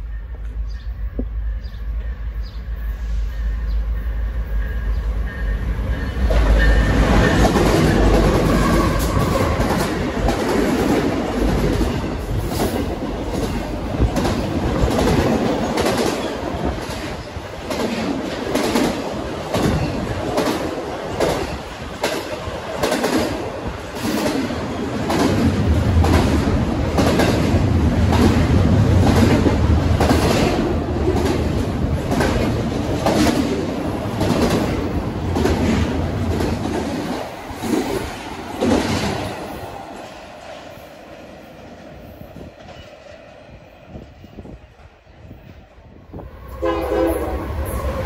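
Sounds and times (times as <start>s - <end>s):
freight train rumble: 0.0s - 48.0s.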